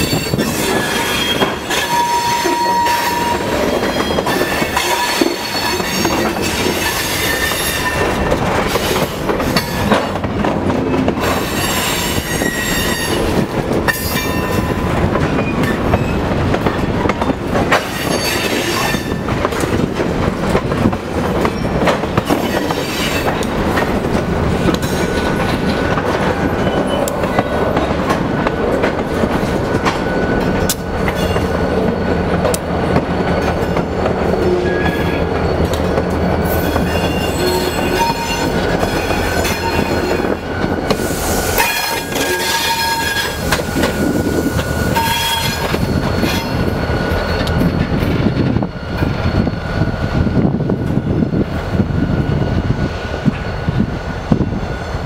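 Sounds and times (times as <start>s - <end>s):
steel wheels squealing on rail: 0.0s - 10.3s, 10.9s - 55.0s
diesel locomotive engine drone: 0.0s - 55.0s.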